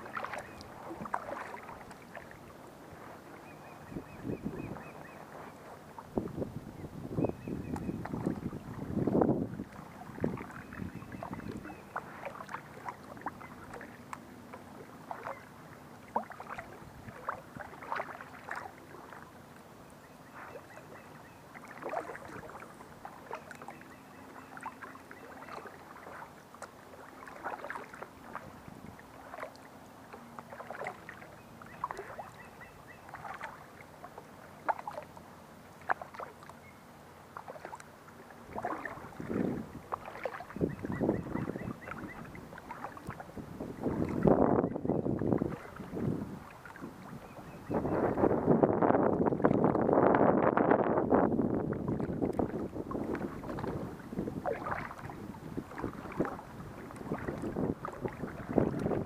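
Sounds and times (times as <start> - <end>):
paddle splashing in water: 0.0 - 59.0.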